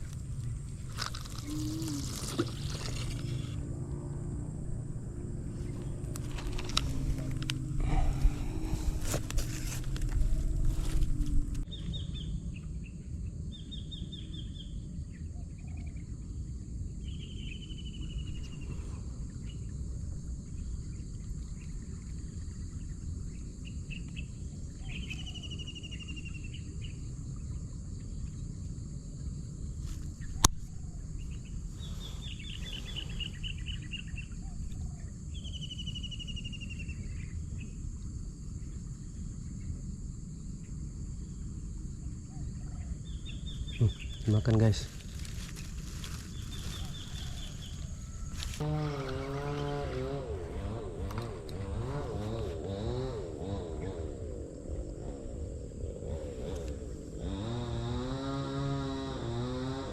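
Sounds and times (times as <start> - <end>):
low steady rumble: 0.0 - 59.6
high insect drone: 0.0 - 59.9.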